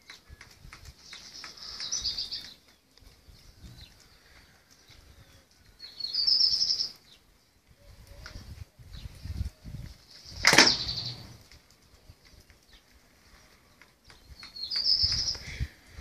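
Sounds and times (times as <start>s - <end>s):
small bird chirping trill: 0.0s - 11.4s, 12.2s - 15.6s.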